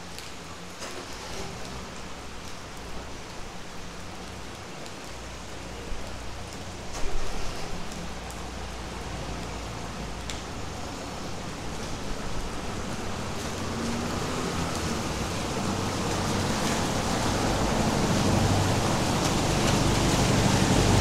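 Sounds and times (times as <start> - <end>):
car passing on wet street: 0.0 - 21.0
steady rain falling: 0.0 - 21.0.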